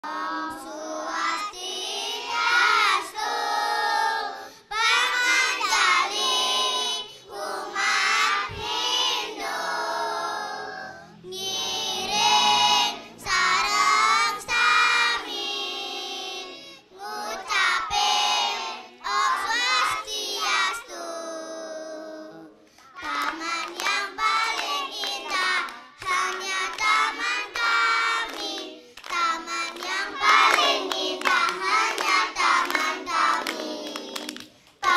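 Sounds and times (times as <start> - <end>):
children singing in unison: 0.0 - 34.9.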